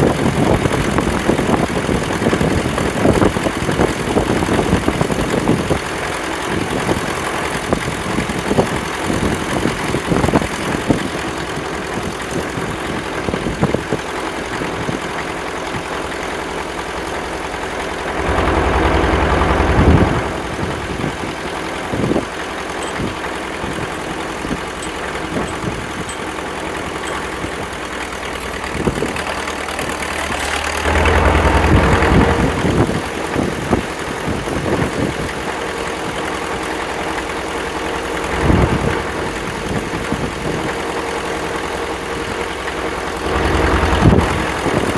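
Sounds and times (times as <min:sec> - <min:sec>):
engine idling with knocking: 0:00.0 - 0:44.9.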